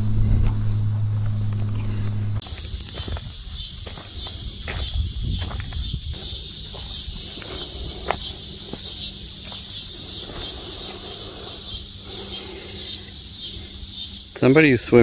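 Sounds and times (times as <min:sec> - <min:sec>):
low rumbling noise: 0:00.0 - 0:14.4
insects shrilling: 0:02.4 - 0:15.0.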